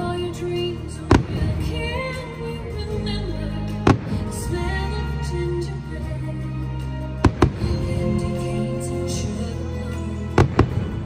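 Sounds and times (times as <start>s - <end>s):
music with singing: 0.0s - 11.0s.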